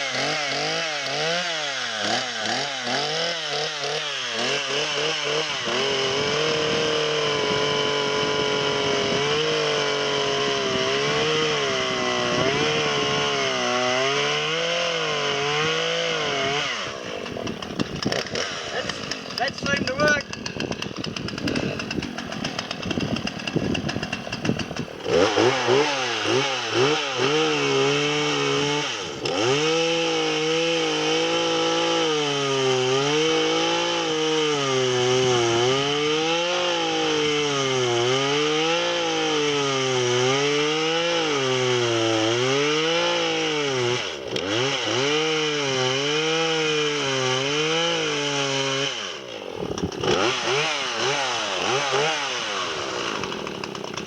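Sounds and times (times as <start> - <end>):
chainsaw cutting: 0.0 - 54.0.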